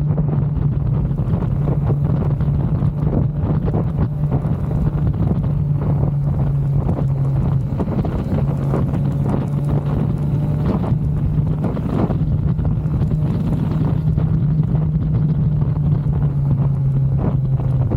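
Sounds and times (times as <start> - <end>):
motorcycle engine running: 0.0 - 17.9
wind buffeting microphone: 0.0 - 17.9.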